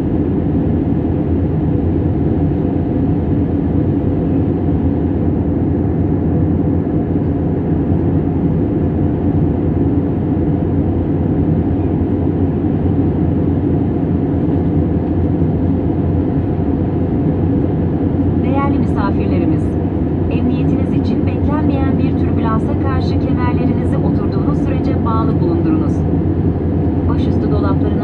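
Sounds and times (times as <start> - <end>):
jet engines and rushing air: 0.0 - 28.0
low hum: 0.0 - 28.0.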